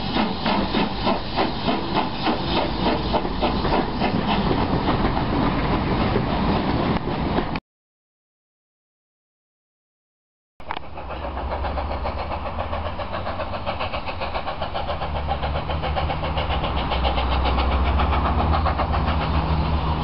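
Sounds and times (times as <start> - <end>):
steam locomotive exhaust beating: 0.0 - 7.6, 10.6 - 20.0.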